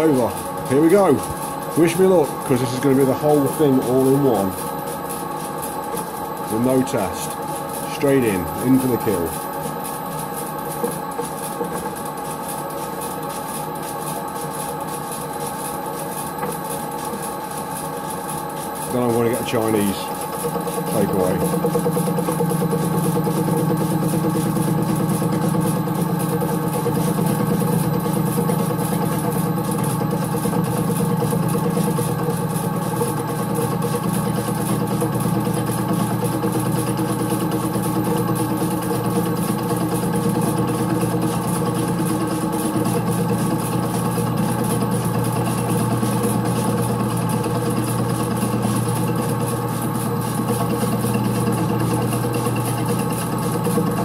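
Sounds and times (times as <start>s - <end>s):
lathe milling hum: 0.0s - 54.0s.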